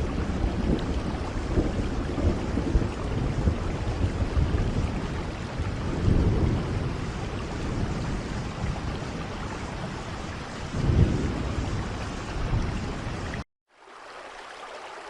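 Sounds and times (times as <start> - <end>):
thunder rumbling: 0.0 - 13.4
steady rainfall: 0.0 - 15.0.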